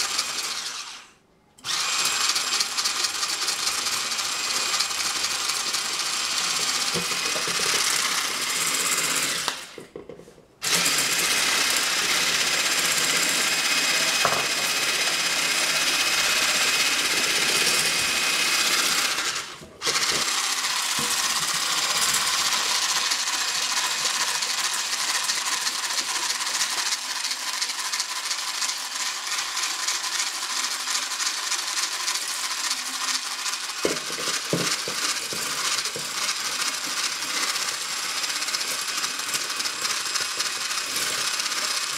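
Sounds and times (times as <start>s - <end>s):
electric mixer running: 0.0s - 41.9s.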